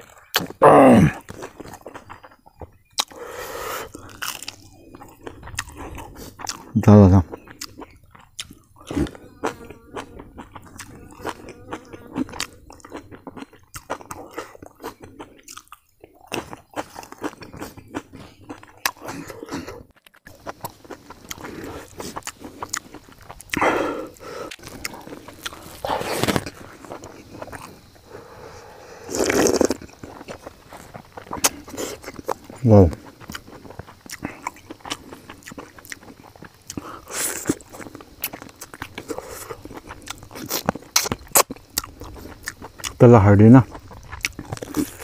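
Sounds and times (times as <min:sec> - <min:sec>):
person chewing food: 0:00.0 - 0:43.0, 0:43.6 - 0:45.0.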